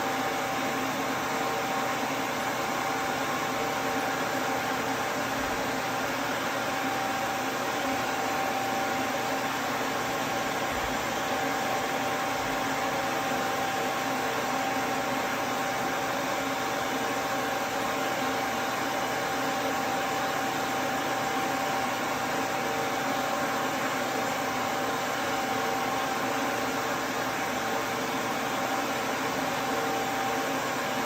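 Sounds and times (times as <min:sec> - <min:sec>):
pet dryer blower whining: 0:00.0 - 0:31.0.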